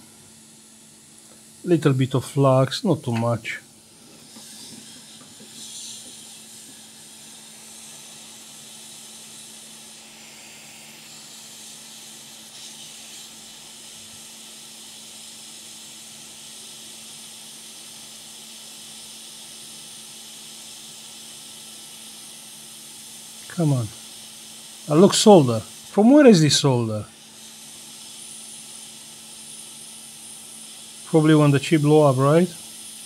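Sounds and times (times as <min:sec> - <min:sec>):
hot air station hissing: 0:00.0 - 0:33.0.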